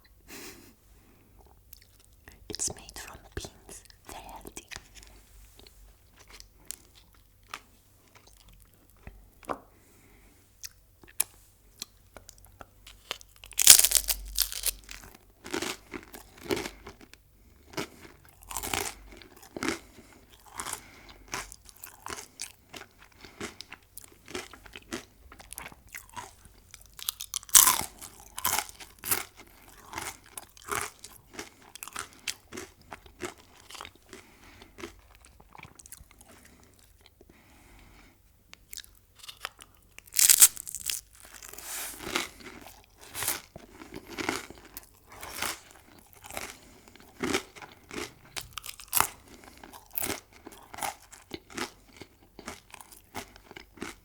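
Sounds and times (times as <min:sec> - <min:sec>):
crunchy food chewing: 0:01.4 - 0:09.1, 0:10.6 - 0:37.5, 0:38.6 - 0:54.0.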